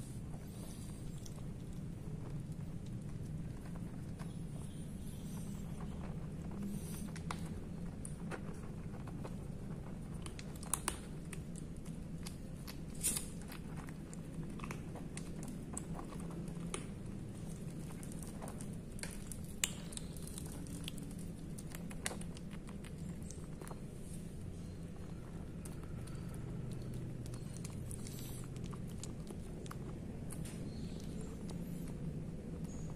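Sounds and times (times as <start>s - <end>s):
kittens crunching dry kibble: 0.0s - 32.9s.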